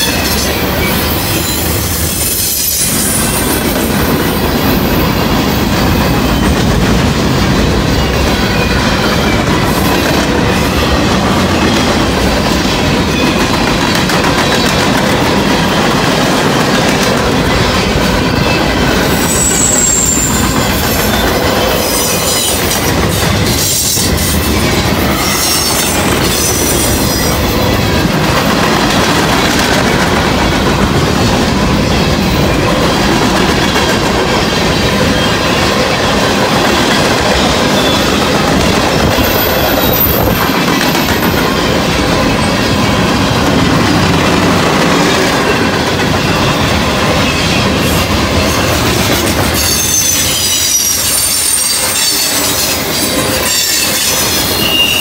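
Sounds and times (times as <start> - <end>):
freight train cars passing: 0.0 - 55.0
train wheel squeals: 0.0 - 55.0.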